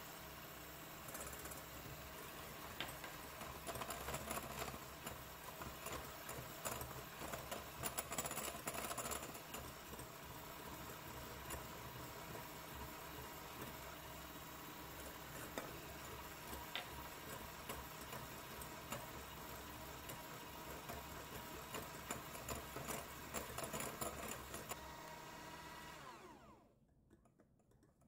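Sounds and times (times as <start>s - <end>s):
hand mixer running: 0.0s - 26.8s.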